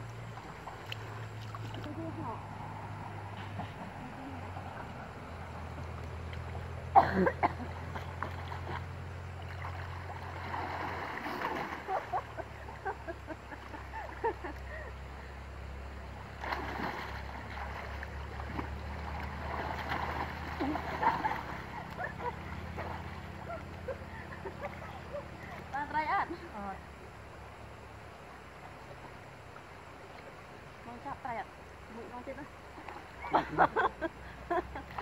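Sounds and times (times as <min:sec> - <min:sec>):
water sloshing and splashing: 0:00.0 - 0:15.1, 0:15.8 - 0:35.0.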